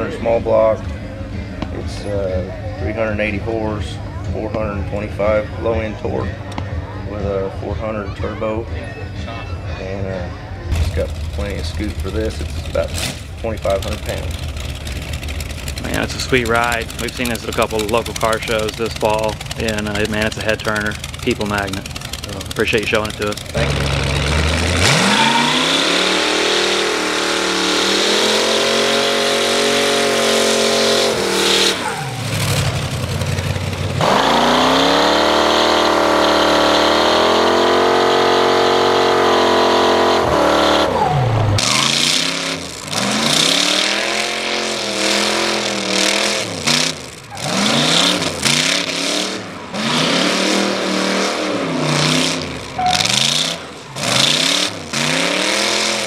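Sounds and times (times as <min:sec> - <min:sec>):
engine revving: 0:10.7 - 0:56.0.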